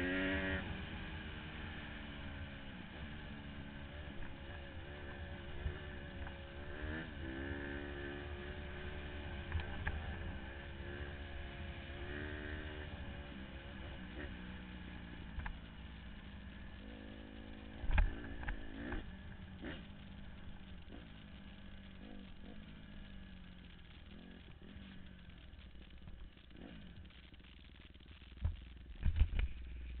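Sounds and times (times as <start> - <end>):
dirt bike engine revving: 0.0 - 27.2.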